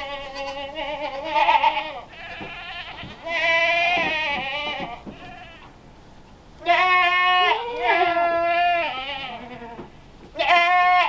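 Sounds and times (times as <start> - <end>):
goats bleating: 0.0 - 5.7, 6.6 - 11.0.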